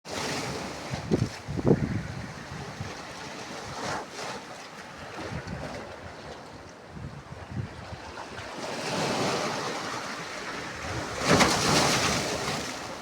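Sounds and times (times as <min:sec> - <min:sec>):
sea waves breaking: 0:00.1 - 0:13.0
wind buffeting microphone: 0:00.8 - 0:03.9, 0:05.0 - 0:13.0.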